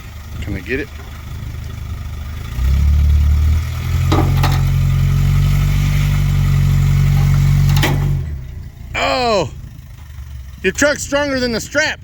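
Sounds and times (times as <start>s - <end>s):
truck engine droning under load: 0.0s - 12.0s.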